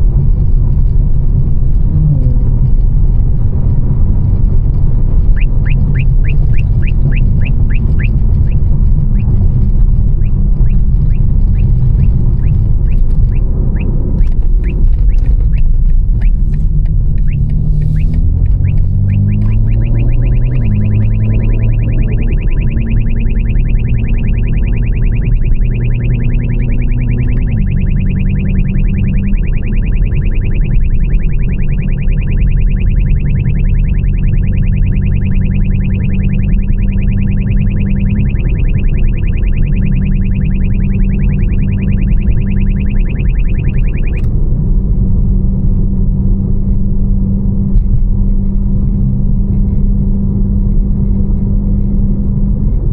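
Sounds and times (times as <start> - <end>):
car engine idling: 2.6 - 45.2.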